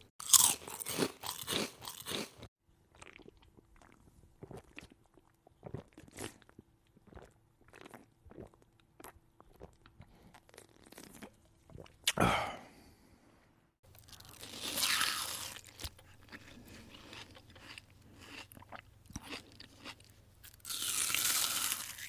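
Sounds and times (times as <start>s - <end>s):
person chewing crunchy burger: 0.2s - 12.0s, 13.9s - 22.0s.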